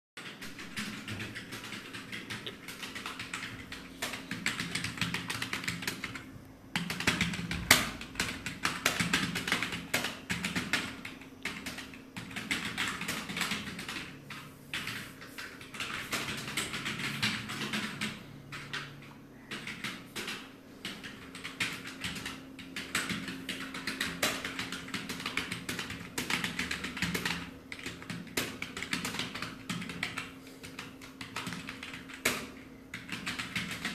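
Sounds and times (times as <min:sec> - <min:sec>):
loud keyboard clack: 0:00.2 - 0:33.9
typing on computer keyboard: 0:00.2 - 0:33.9.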